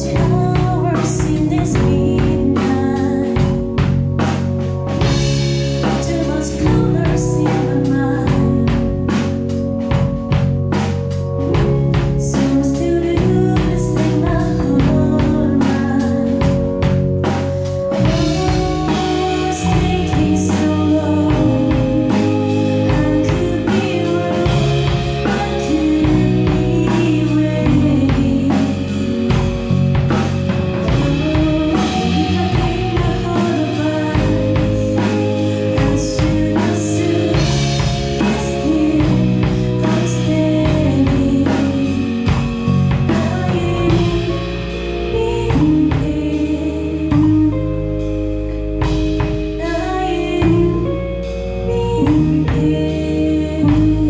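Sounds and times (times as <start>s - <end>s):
woman singing: 0.0s - 4.0s, 5.0s - 9.5s, 11.5s - 48.1s, 48.8s - 54.0s
live band playing: 0.0s - 54.0s.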